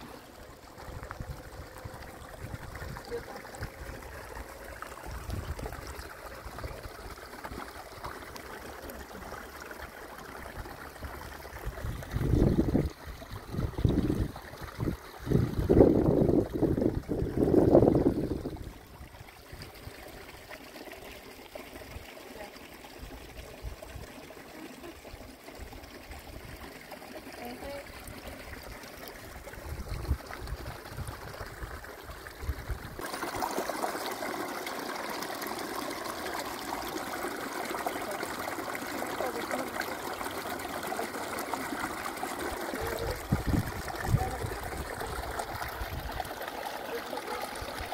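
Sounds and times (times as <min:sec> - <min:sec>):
running water trickling: 0:00.0 - 0:47.9.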